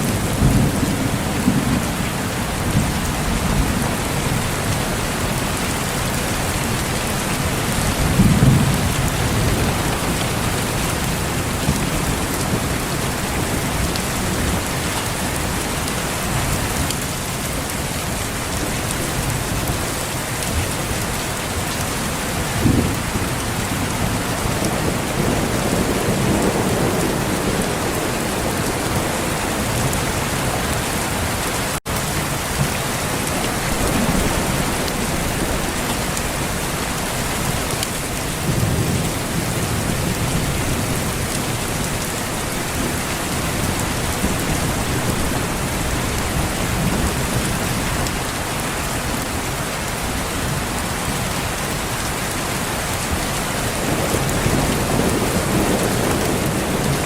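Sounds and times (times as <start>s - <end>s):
thunder rumbling: 0.0s - 17.1s, 21.7s - 51.2s, 53.0s - 57.0s
heavy rain falling: 0.0s - 57.0s.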